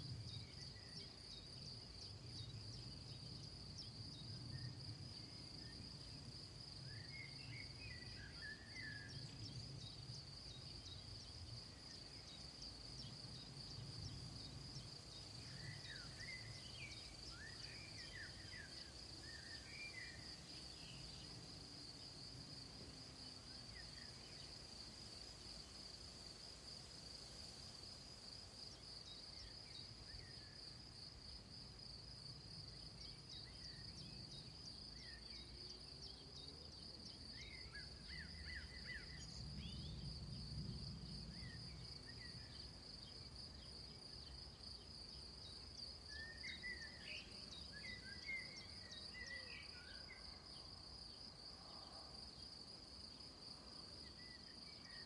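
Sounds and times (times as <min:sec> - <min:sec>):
insect chorus trilling: 0:00.3 - 0:55.0.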